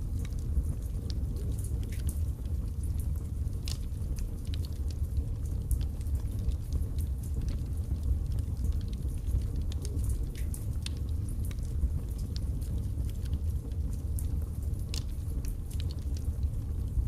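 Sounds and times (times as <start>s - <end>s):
fire burning: 0.0s - 17.0s
fire crackling and popping: 0.0s - 17.0s.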